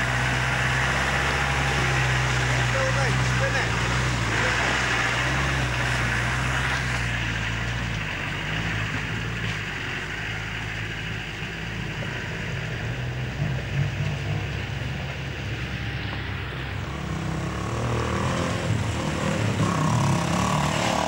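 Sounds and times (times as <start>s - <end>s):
car engine running off-road: 0.0s - 21.0s.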